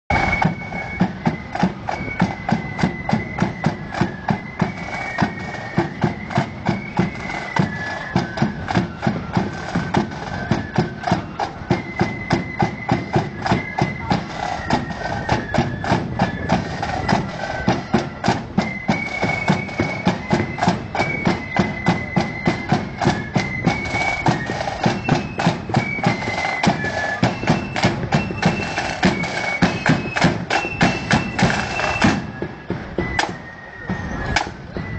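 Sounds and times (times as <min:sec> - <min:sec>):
flute band melody: 0:00.1 - 0:34.9
marching drums beating: 0:00.1 - 0:34.9.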